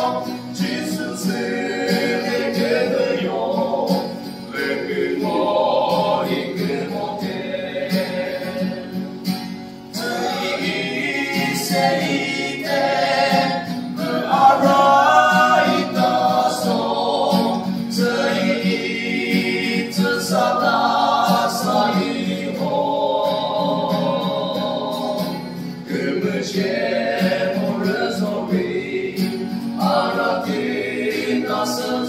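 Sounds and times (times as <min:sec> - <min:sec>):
men singing a hymn in parts: 0:00.0 - 0:32.0
strummed acoustic guitar: 0:00.0 - 0:32.0.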